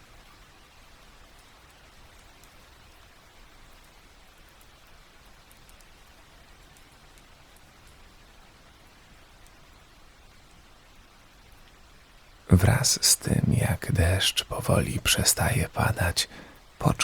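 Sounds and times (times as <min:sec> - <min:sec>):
rain pattering on a surface: 0:00.0 - 0:17.0.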